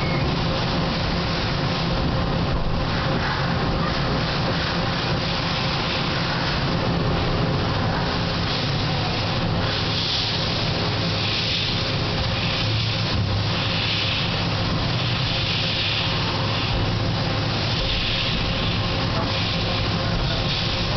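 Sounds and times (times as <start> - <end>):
hiss: 0.0 - 20.9
lathe running with mechanical hum: 0.0 - 20.9.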